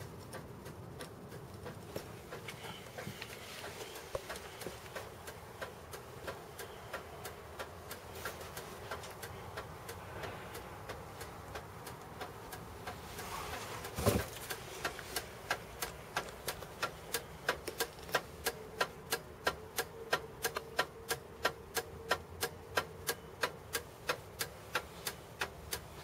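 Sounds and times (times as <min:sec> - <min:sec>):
mechanical ticking clicks: 0:00.0 - 0:13.2, 0:13.8 - 0:26.0.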